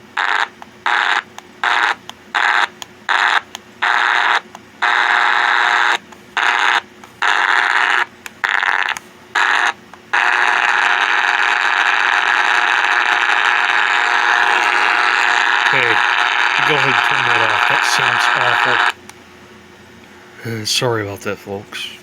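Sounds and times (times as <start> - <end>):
radio static hiss: 0.0 - 19.0, 20.4 - 22.0.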